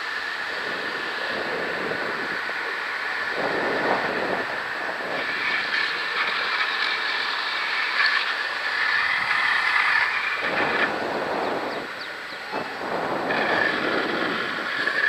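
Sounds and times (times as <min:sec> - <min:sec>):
skateboard wheels rolling on asphalt: 0:00.0 - 0:15.0
wind on microphone: 0:00.0 - 0:15.0.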